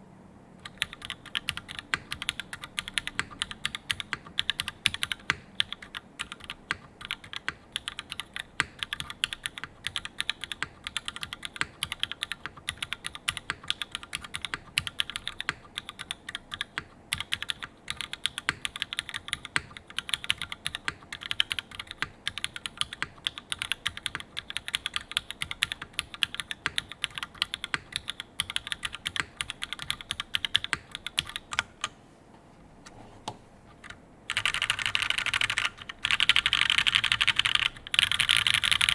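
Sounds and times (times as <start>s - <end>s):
mechanical keyboard typing: 0.6s - 31.9s, 33.8s - 38.9s.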